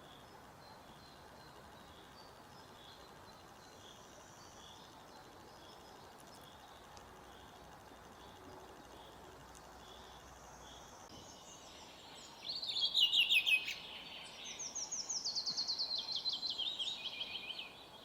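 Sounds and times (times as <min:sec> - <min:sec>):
low even hiss: 0:00.0 - 0:18.0.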